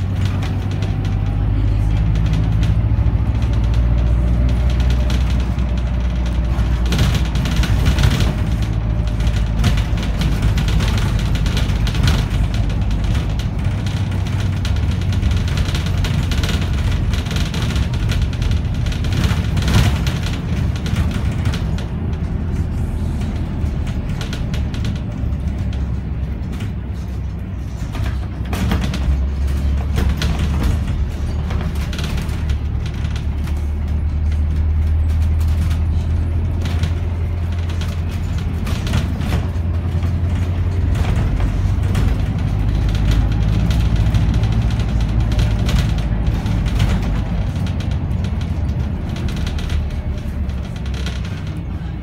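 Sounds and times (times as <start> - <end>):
bus body rattles and knocks: 0.0 - 52.0
bus engine drone: 0.0 - 52.0.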